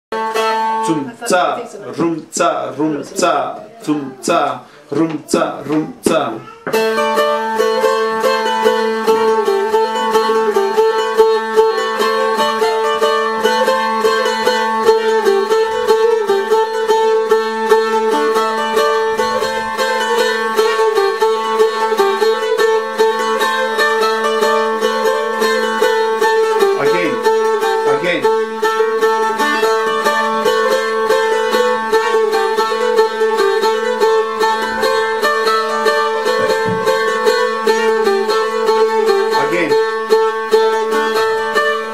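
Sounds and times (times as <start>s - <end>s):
plucked lute with drone: 0.1s - 1.6s, 2.4s - 41.9s.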